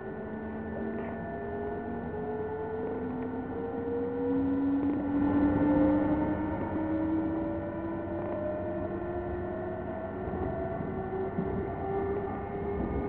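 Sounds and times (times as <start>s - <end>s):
traction motor whine: 0.0s - 13.0s.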